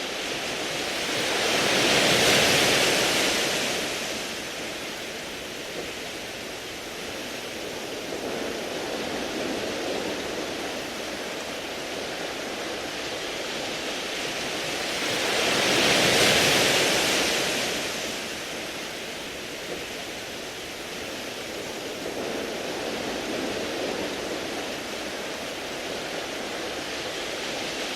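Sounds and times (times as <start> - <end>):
waves washing over pebbles: 0.0 - 27.9.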